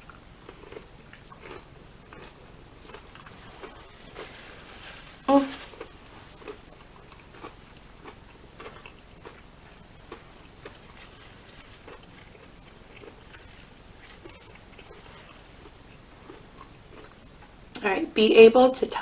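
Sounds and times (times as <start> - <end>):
person chewing food: 0.0 - 17.6.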